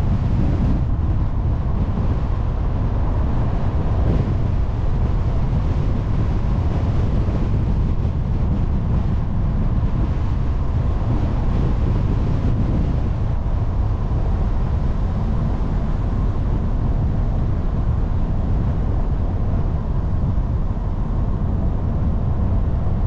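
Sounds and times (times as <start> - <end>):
car tyre and road noise: 0.0 - 23.0
wind buffeting microphone: 0.0 - 23.0.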